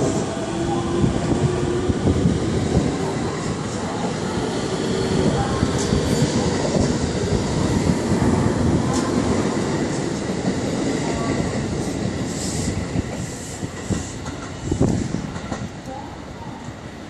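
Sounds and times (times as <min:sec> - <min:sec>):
electric train rolling on rails: 0:00.0 - 0:17.0.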